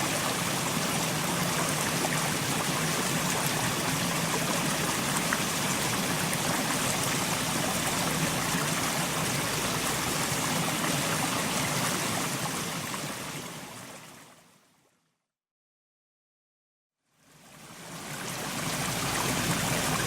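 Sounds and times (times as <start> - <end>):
mountain stream flowing: 0.0 - 14.4, 17.3 - 20.0.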